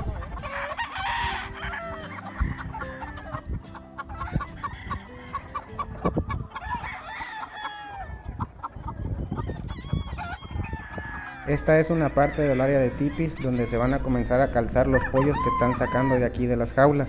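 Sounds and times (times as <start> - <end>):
roosters clucking and calling: 0.0 - 17.0.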